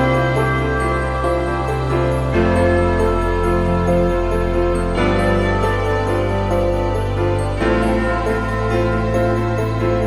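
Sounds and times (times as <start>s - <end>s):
background music sustained chords: 0.0s - 10.0s.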